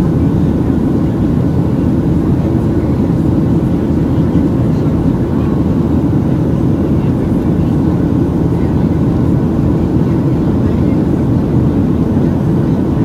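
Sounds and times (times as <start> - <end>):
airliner cabin engine roar: 0.0 - 13.0.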